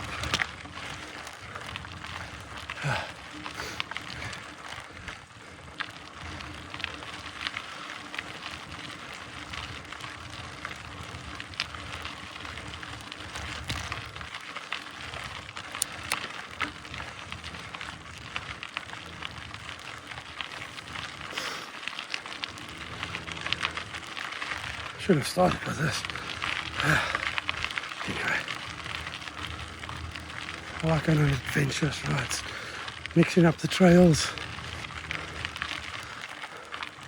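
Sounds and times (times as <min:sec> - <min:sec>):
bike clicks and rattles: 0:00.0 - 0:37.0
bike tyres crunching on gravel: 0:00.0 - 0:37.0.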